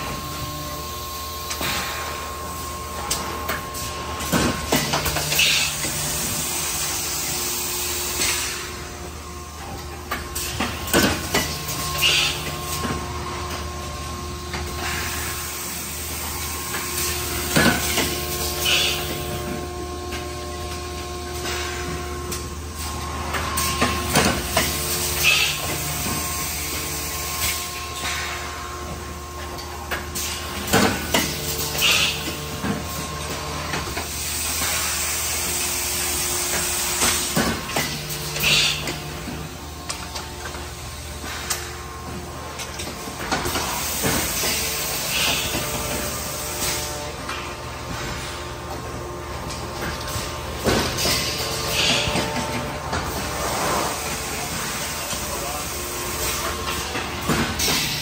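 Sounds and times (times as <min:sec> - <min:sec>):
industrial machine humming: 0:00.0 - 0:58.0.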